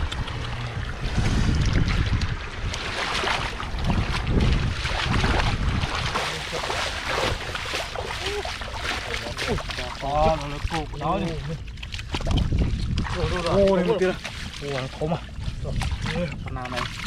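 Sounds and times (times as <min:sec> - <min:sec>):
water and mud splashing: 0:00.0 - 0:17.0
wind rumbling on microphone: 0:00.0 - 0:17.0.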